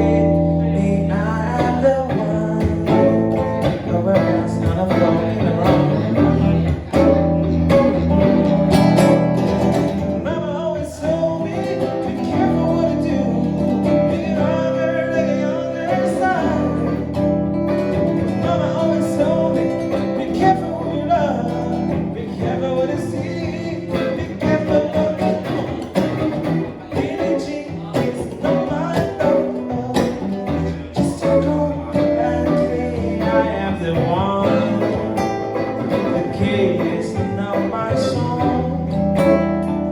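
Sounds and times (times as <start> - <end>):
acoustic and electric guitars jamming: 0.0 - 39.9.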